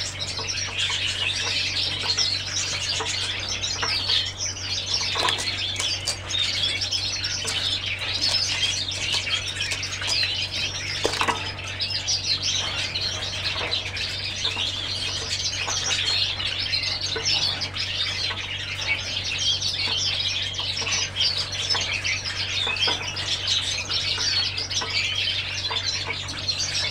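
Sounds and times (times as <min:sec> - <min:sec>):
canaries chirping and twittering: 0:00.0 - 0:26.9
steady low hum: 0:00.0 - 0:26.9.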